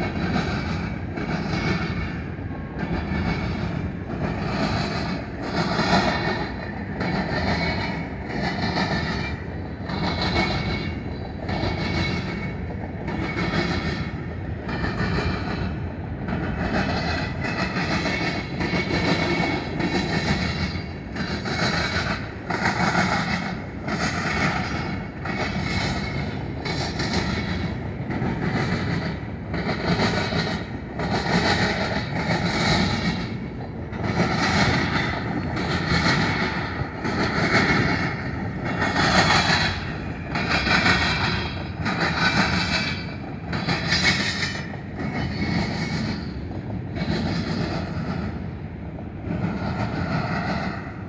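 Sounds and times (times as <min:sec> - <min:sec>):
train wheels clattering: 0:00.0 - 0:51.0.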